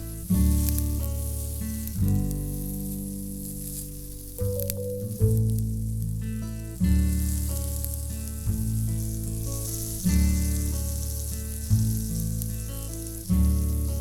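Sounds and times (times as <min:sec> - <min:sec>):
food sizzling in frying: 0:00.0 - 0:14.0.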